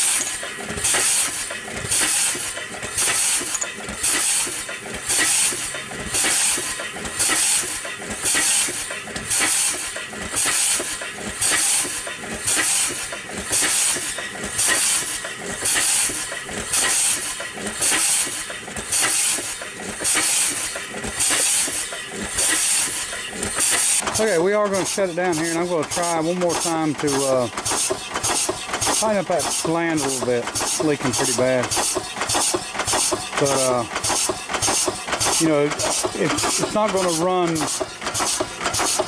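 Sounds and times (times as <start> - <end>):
steady steam hiss: 0.0 - 39.0
steam engine chuffing: 0.0 - 39.0.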